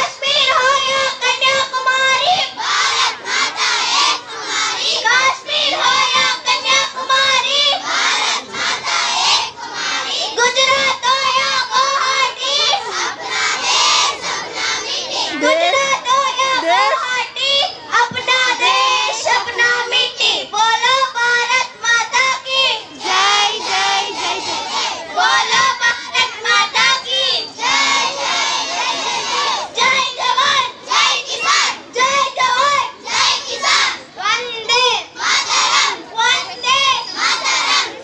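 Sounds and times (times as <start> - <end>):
children singing and shouting: 0.0 - 38.0.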